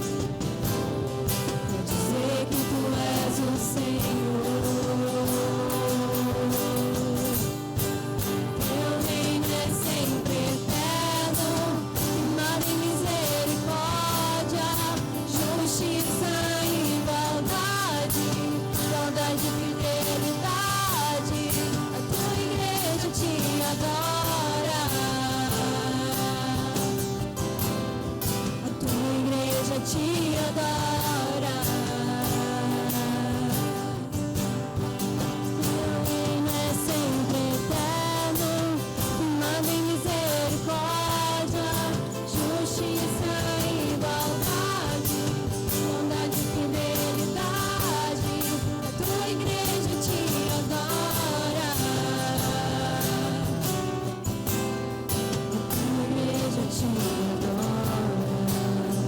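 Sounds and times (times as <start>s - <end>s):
regular drum beat: 0.0s - 58.7s
person singing melody: 1.0s - 27.5s, 28.6s - 54.3s, 55.5s - 59.0s.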